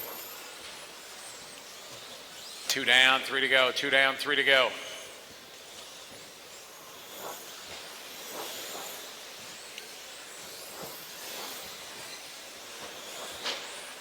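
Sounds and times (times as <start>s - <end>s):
rc truck motors whining: 0.0s - 2.8s, 4.9s - 14.0s.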